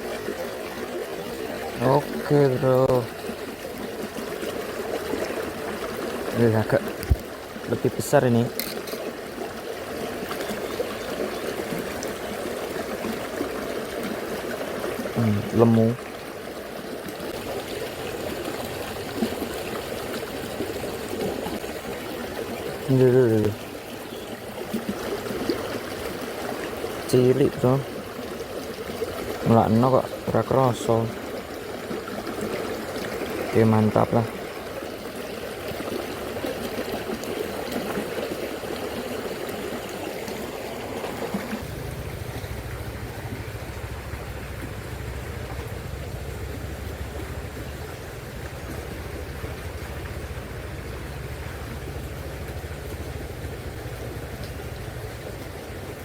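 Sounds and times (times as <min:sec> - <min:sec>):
river current flowing: 0:00.0 - 0:56.0.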